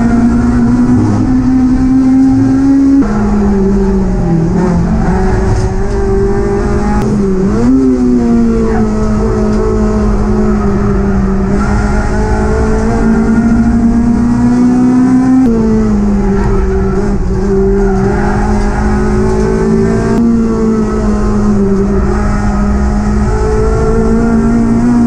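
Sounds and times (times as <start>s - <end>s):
race car engine at high revs: 0.0s - 25.0s.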